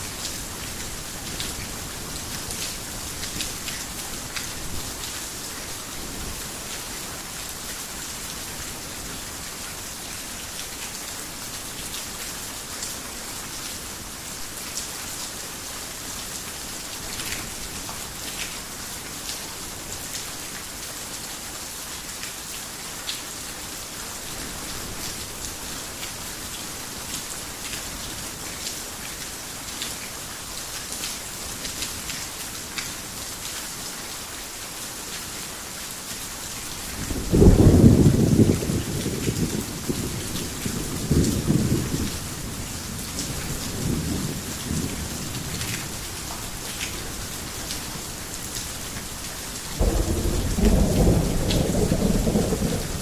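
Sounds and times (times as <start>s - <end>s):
heavy rain on a roof: 0.0s - 53.0s.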